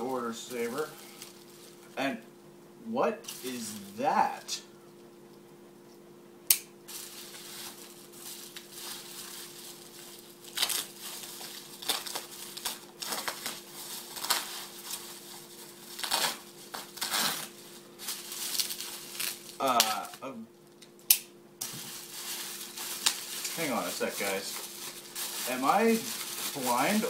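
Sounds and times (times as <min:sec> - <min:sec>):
plastic wrap rustling and crinkling: 0:00.0 - 0:02.0, 0:03.2 - 0:04.4, 0:06.9 - 0:20.2, 0:21.6 - 0:27.0.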